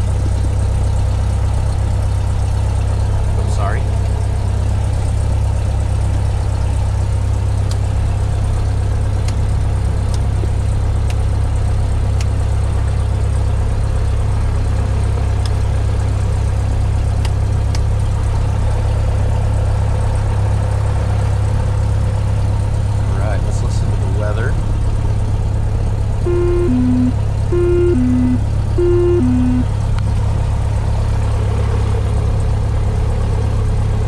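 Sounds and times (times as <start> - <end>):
propeller plane engine idling: 0.0 - 34.0.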